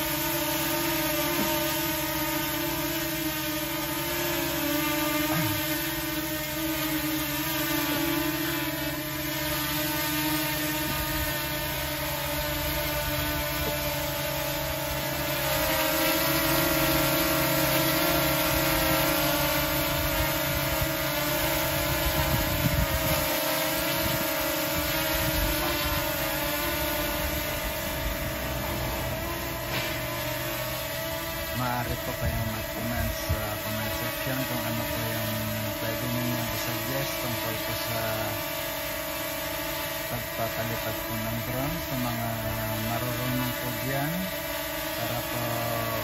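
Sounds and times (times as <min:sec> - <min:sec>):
drone buzzing whine: 0:00.0 - 0:46.0.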